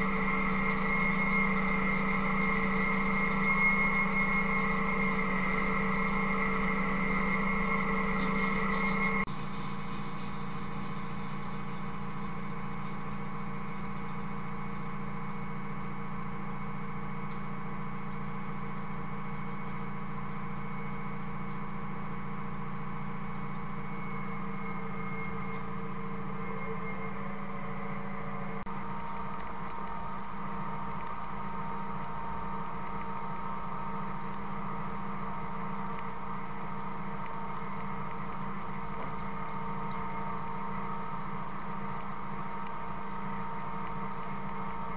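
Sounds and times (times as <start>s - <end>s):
rising machine whine: 0.0s - 44.9s
steady machine whine: 0.0s - 44.9s
tractor engine drone: 0.0s - 44.9s.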